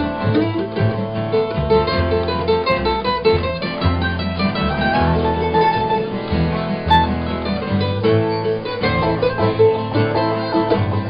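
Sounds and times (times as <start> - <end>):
acoustic guitar strumming: 0.0 - 11.0
mandolin picking: 0.0 - 11.0
plucked upright bass: 0.0 - 11.0.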